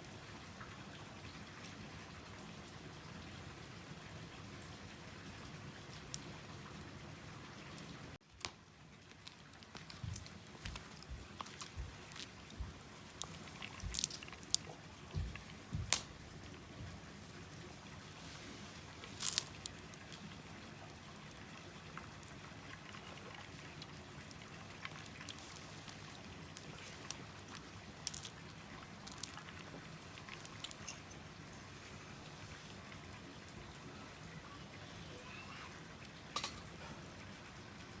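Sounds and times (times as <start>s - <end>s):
wood fire crackling in stove: 0.0s - 38.0s.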